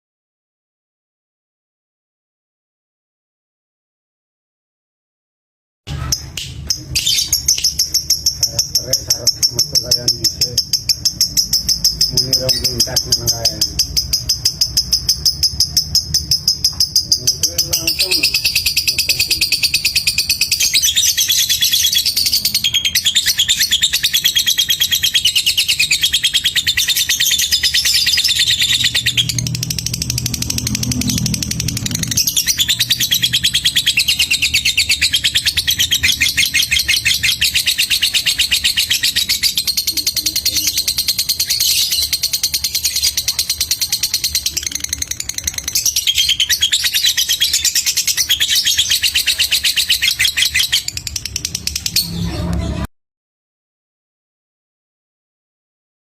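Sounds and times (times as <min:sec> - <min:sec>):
lovebird singing rapid chatter: 0:05.9 - 0:52.4.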